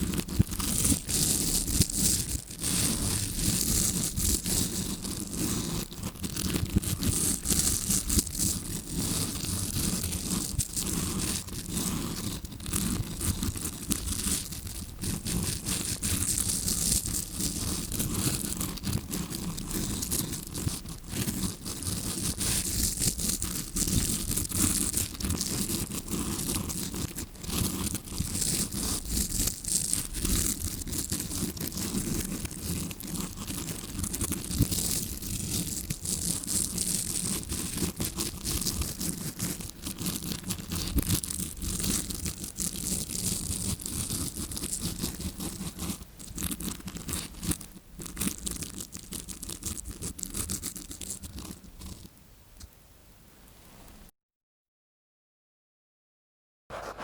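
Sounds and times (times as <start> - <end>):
brush scratching on microphone: 0.0 - 52.1, 56.7 - 57.0.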